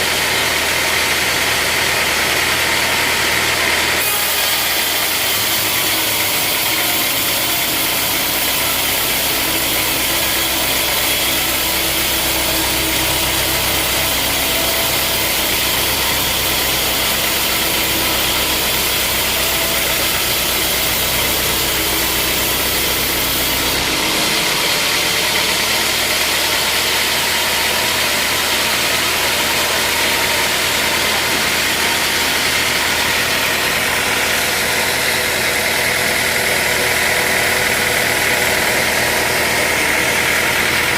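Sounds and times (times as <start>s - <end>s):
sawmill machinery hum: 0.0s - 40.9s.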